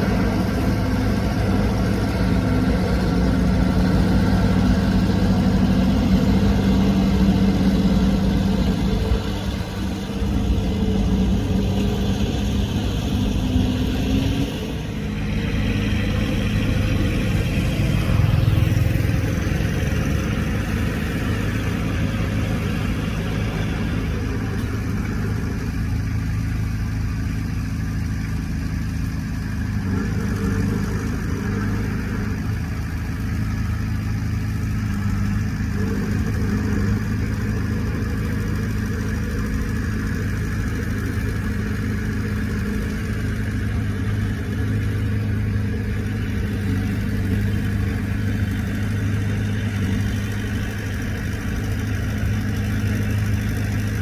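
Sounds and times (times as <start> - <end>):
diesel engine running under load: 0.0 - 54.0.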